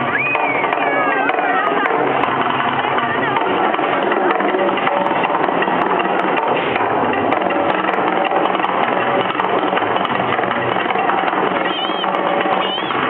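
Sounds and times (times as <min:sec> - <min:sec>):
continuous crackling rumble: 0:00.0 - 0:13.0.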